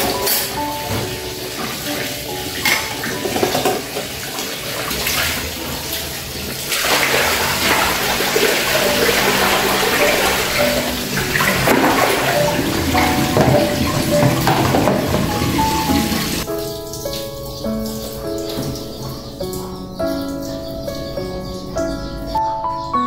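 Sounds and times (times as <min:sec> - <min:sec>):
tap water splashing into basins: 0:00.0 - 0:21.0.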